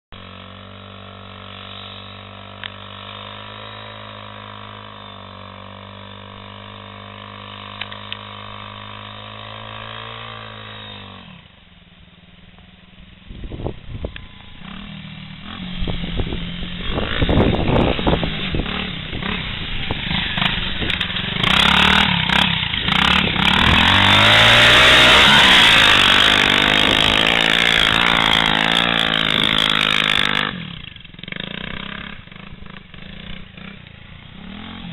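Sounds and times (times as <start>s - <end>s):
small engine idling and revving: 0.1s - 34.9s.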